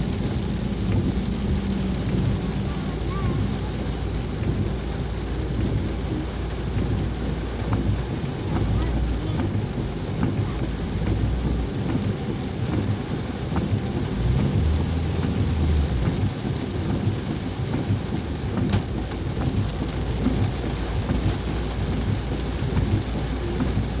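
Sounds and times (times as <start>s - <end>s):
deep low rumble: 0.0s - 24.0s
heavy rain falling: 0.0s - 24.0s.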